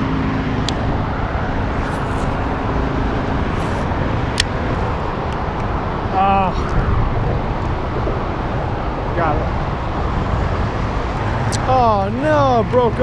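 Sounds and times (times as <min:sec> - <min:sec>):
road traffic rumble and tyre hiss: 0:00.0 - 0:13.0.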